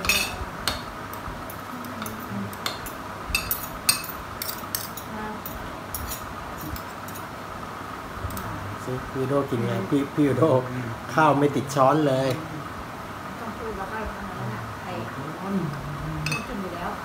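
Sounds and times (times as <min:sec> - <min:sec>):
electric fans humming: 0:00.0 - 0:17.0.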